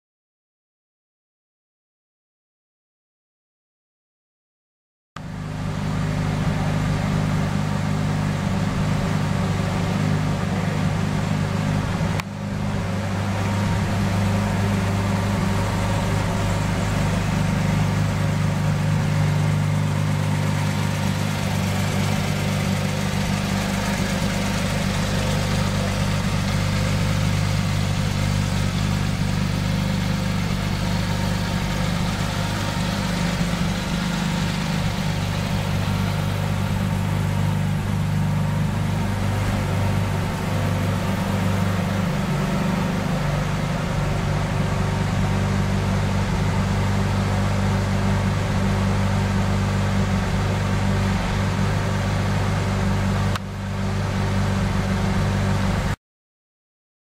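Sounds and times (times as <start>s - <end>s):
car engine idling: 5.2s - 56.0s.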